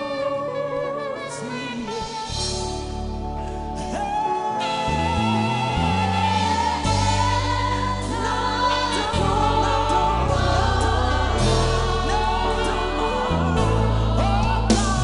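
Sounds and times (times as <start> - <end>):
gospel choir singing: 0.0 - 15.0
deep bass: 2.3 - 15.0.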